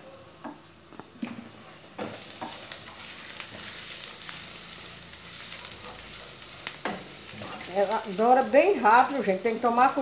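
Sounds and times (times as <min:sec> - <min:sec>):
garlic sizzling in a frying pan: 0:00.0 - 0:10.0.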